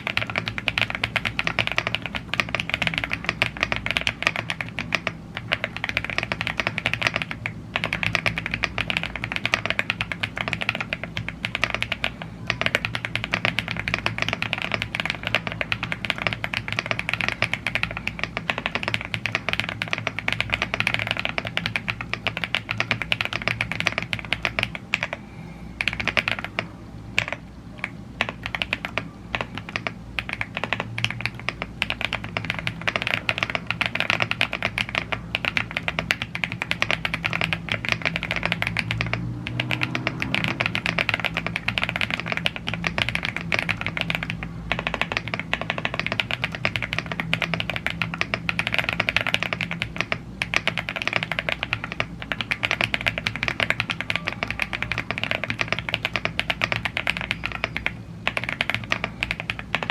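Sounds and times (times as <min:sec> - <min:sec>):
fast typing on mechanical keyboard: 0:00.0 - 0:25.2, 0:25.8 - 0:59.9.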